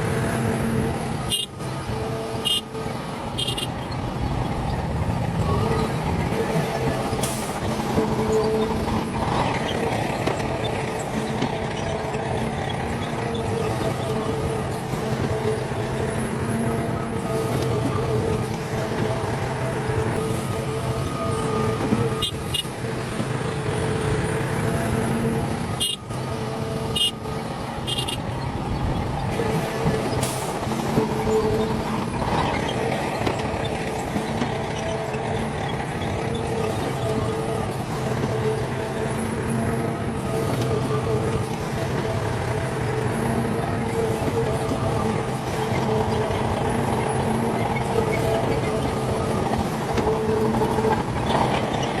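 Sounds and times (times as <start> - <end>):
heavy machinery diesel engines: 0.0 - 52.0.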